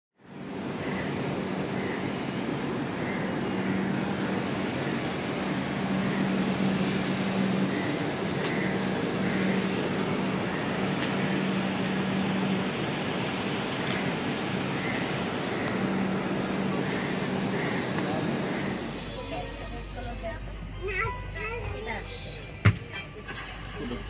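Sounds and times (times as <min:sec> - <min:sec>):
train running: 0:00.2 - 0:24.0.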